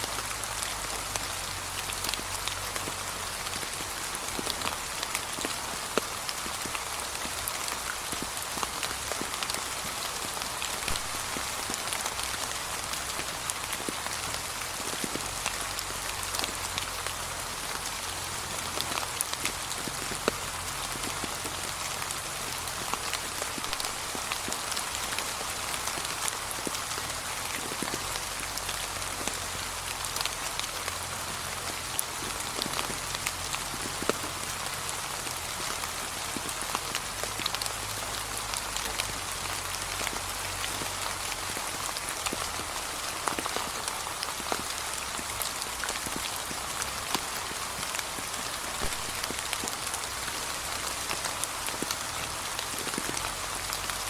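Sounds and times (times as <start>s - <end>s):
light rain on leaves: 0.0s - 54.0s.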